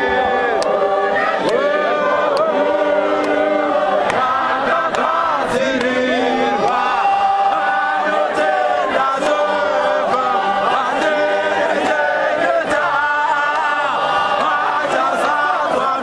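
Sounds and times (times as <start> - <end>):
men's choir singing a hymn: 0.0 - 16.0.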